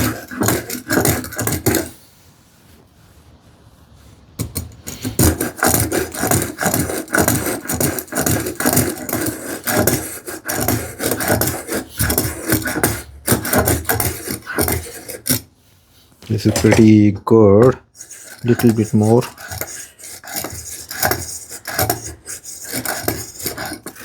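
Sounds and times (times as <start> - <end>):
spokeshave shaving wood: 0.0 - 2.0, 4.9 - 15.5, 16.2 - 17.0, 17.9 - 24.0.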